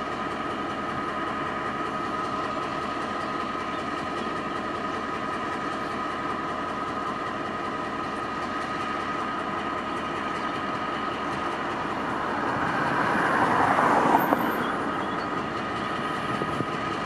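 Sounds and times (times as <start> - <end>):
diesel locomotive idling: 0.0 - 17.0.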